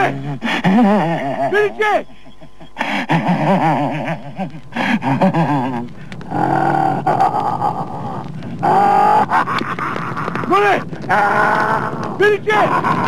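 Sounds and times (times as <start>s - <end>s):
person wailing: 0.0s - 2.0s, 3.1s - 13.0s.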